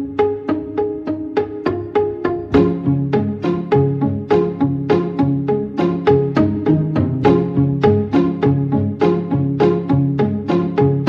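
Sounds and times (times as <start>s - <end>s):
background music with quick notes: 0.0s - 11.0s.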